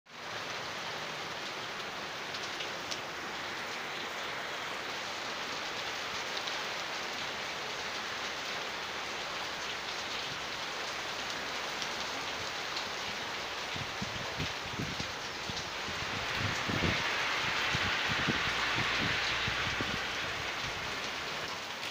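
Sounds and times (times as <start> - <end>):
steady rain falling: 0.1 - 21.9.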